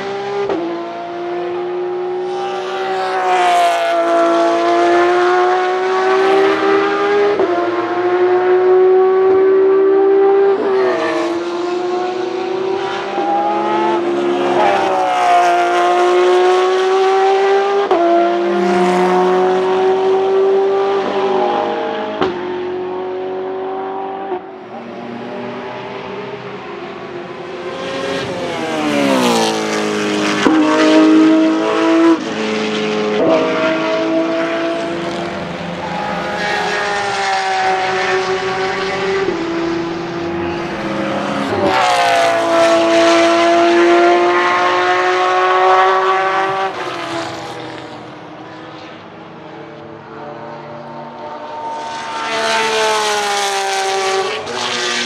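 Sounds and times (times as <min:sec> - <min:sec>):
race car engines at full throttle: 0:00.0 - 0:55.0.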